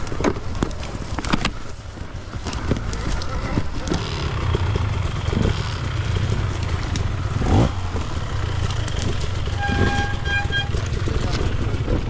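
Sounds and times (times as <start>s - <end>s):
tyres rumbling over rough ground: 0.0s - 12.0s.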